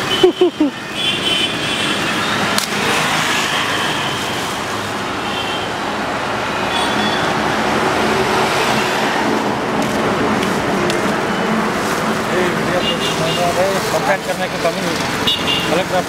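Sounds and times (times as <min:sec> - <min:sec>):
roadside traffic noise: 0:00.0 - 0:16.0.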